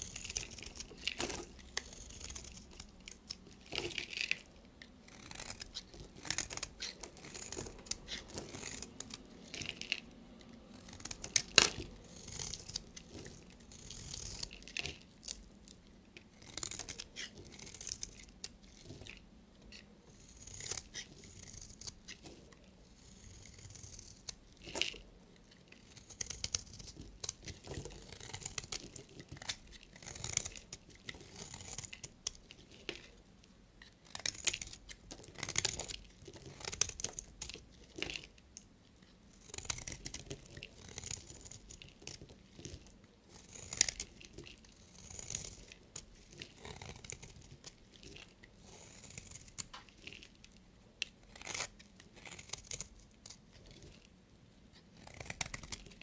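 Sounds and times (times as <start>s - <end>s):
knife cutting soap: 0.0s - 56.0s.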